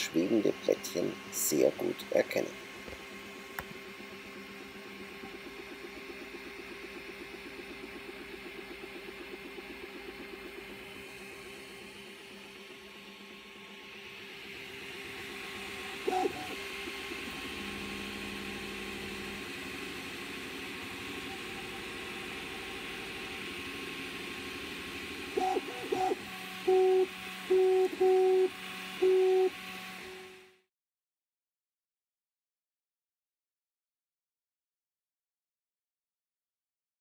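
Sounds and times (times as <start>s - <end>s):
stepper motors humming: 0.0s - 30.6s.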